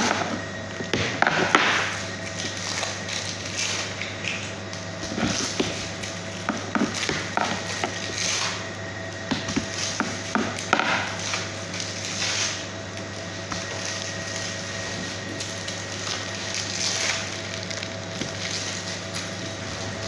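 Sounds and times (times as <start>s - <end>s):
steady background hum: 0.0s - 20.0s
plastic sheet rustling and crinkling: 1.2s - 8.7s, 9.4s - 20.0s.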